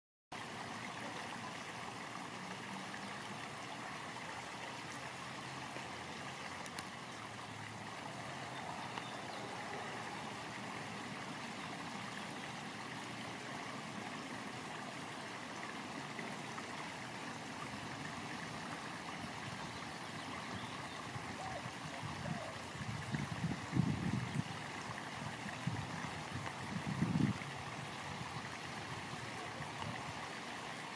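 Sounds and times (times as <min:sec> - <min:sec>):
stream water rushing: 0:00.3 - 0:30.9.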